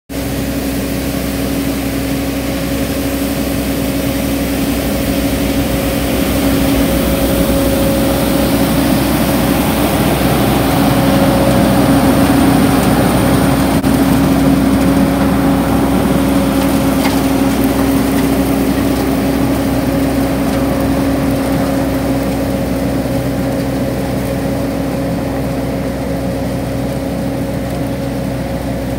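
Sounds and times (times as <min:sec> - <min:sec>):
sweeper truck droning hum: 0:00.1 - 0:28.9.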